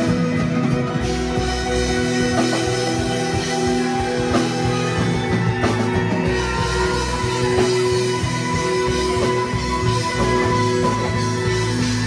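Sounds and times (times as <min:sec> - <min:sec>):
drum kit: 0:00.0 - 0:12.0
electric bass guitar: 0:00.0 - 0:12.0
electric guitar: 0:00.0 - 0:12.0
keyboards: 0:00.0 - 0:12.0.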